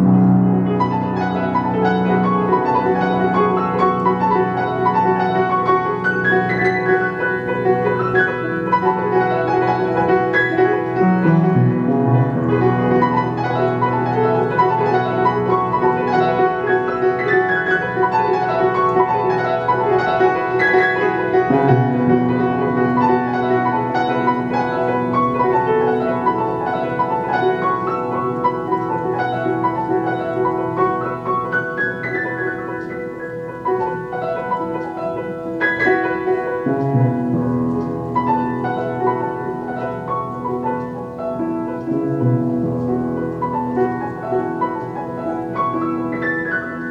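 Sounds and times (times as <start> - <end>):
keyboard melody: 0.0 - 46.9.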